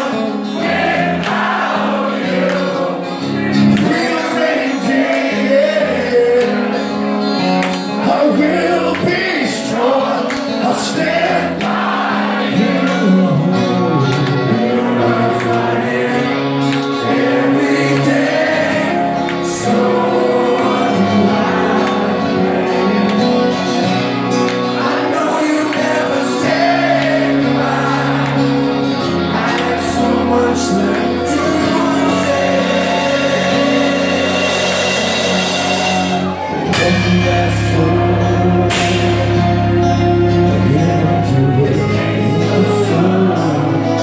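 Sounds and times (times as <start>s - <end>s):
live rock band playing: 0.0s - 44.0s
man singing: 2.6s - 7.2s, 7.8s - 11.6s, 12.4s - 24.1s, 24.7s - 28.2s, 29.1s - 44.0s.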